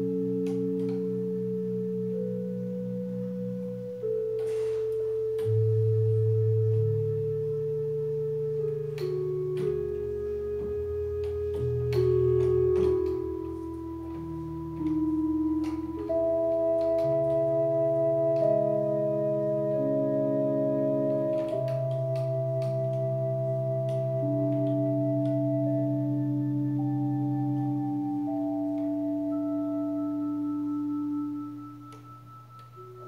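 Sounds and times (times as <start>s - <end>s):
electronic keyboard melody: 0.0s - 33.0s.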